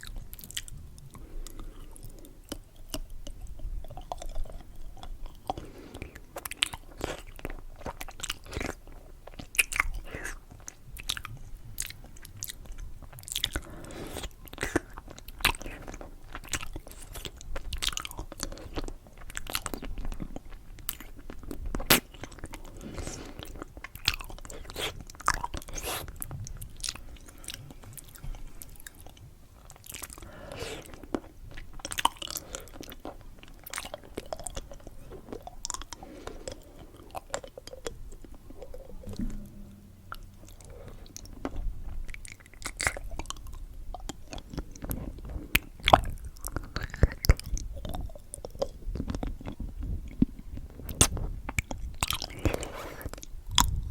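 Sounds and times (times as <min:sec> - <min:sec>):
candy being chewed and crunched: 0:00.0 - 0:39.1, 0:40.4 - 0:53.9.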